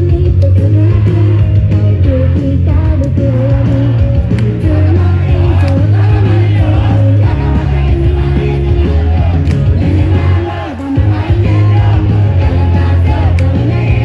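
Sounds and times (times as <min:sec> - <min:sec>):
heavy bass line: 0:00.0 - 0:14.0
pop song over loudspeakers: 0:00.0 - 0:14.0
women singing: 0:00.0 - 0:14.0.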